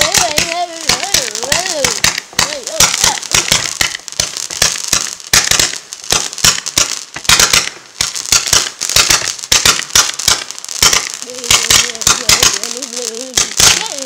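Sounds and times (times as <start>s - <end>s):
crackling sparks: 0.0s - 14.0s
firework cake firing bangs: 0.0s - 14.0s.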